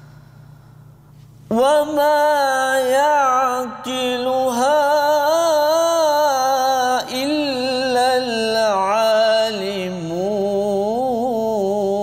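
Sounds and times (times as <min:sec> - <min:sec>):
man chanting melodically: 0:01.5 - 0:12.0.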